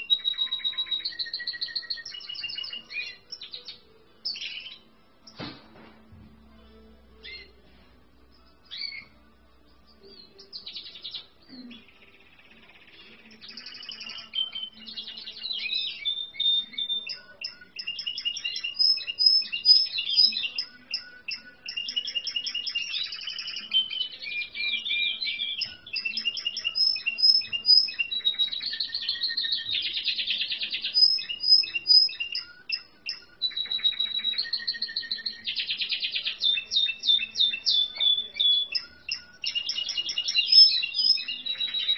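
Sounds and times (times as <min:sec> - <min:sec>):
canary singing trills: 0:00.0 - 0:05.4, 0:06.6 - 0:41.9.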